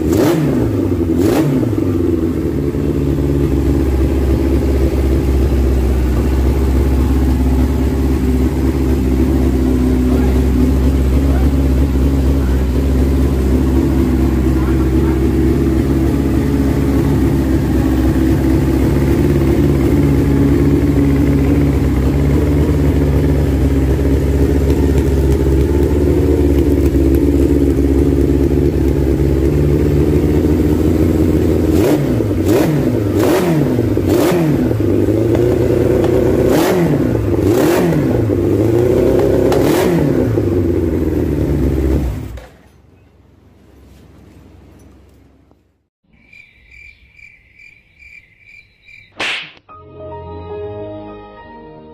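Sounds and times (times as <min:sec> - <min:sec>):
motorcycle engine revving: 0:00.0 - 0:42.7
motorcycle engine idling: 0:00.0 - 0:45.7.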